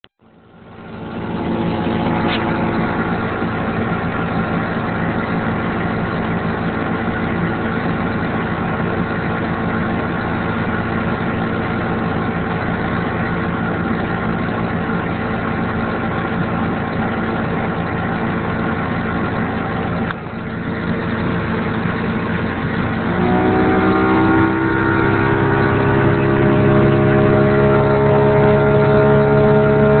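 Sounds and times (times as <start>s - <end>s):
boat engine running: 0.2s - 30.0s.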